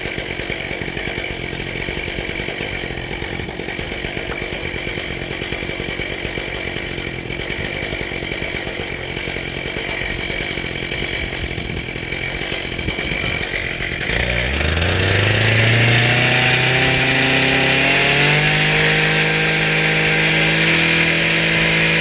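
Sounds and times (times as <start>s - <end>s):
small gas engine revving: 0.0s - 22.0s.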